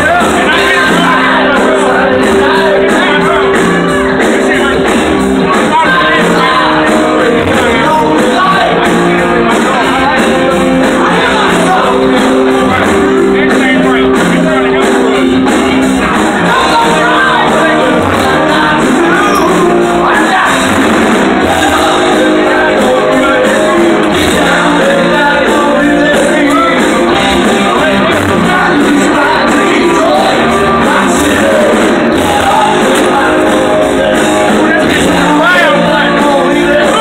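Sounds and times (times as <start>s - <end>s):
loud music with singing: 0.0s - 37.0s.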